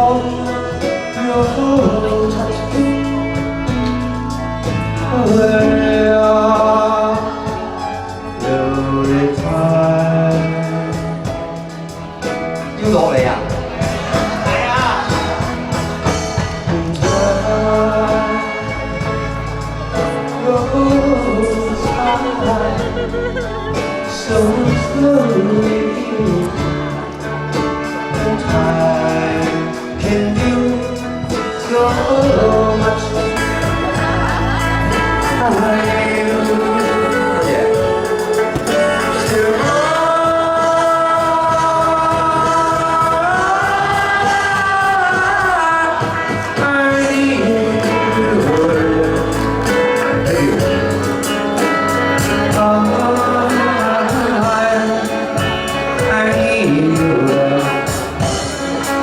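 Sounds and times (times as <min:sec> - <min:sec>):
live band playing pop song: 0:00.0 - 0:59.0
people singing: 0:00.0 - 0:59.0.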